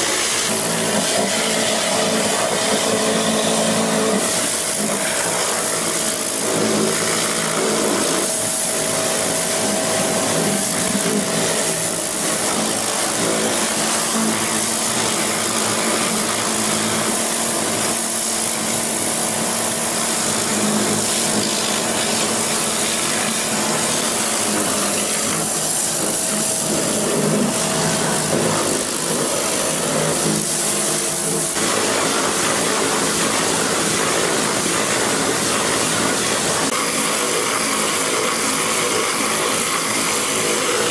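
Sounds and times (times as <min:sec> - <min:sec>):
pressure washer spray hissing: 0:00.0 - 0:40.9.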